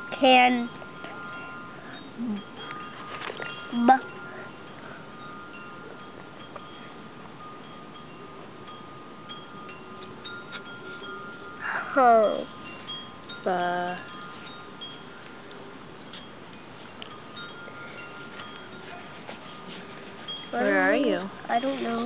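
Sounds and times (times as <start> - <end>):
wind chimes ringing: 0.0 - 22.0.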